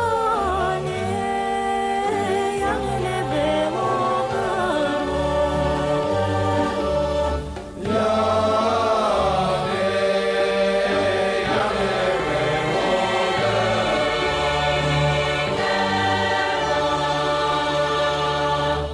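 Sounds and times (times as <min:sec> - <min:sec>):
voices singing folk song: 0:00.0 - 0:18.9.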